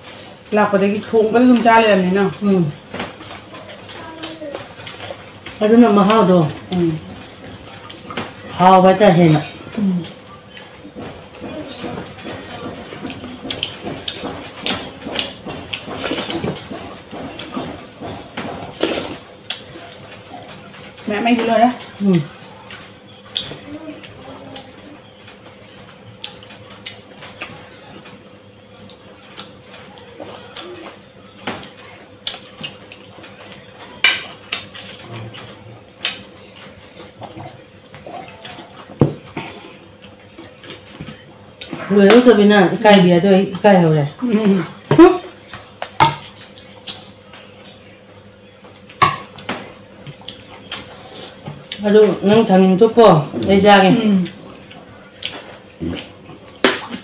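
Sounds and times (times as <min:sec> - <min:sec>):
chewing and lip-smacking: 0:03.1 - 0:08.5, 0:09.2 - 0:21.1, 0:21.8 - 0:41.8, 0:44.7 - 0:51.9, 0:54.2 - 0:57.0.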